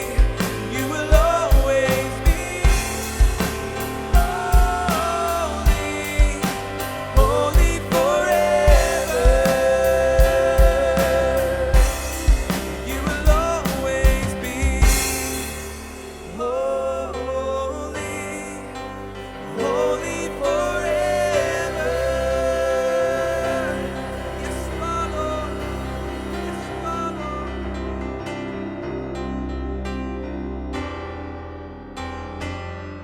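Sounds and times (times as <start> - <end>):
sustained keyboard chords: 0.0 - 33.0.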